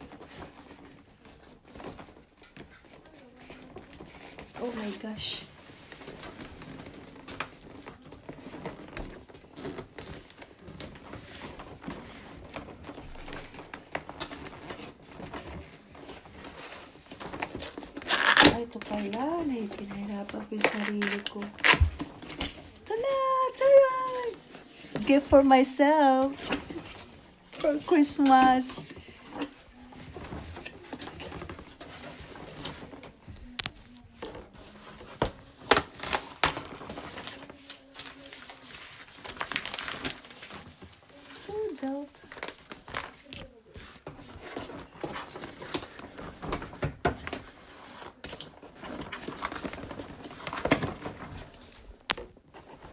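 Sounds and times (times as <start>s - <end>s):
box packaging being handled: 0.0s - 52.9s.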